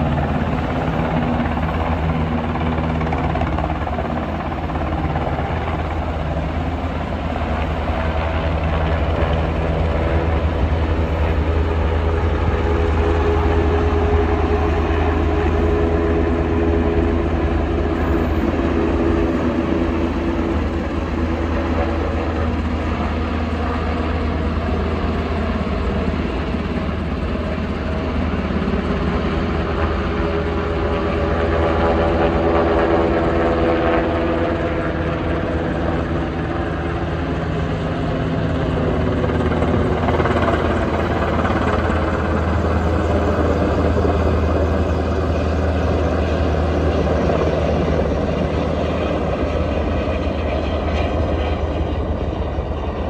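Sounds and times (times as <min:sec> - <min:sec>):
helicopter rotors throbbing: 0:00.0 - 0:53.0.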